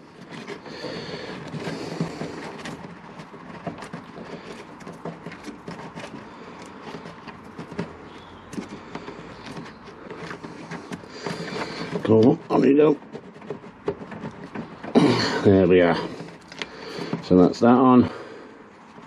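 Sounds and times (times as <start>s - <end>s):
rubber hose rubbing and clicking: 0.0s - 19.0s.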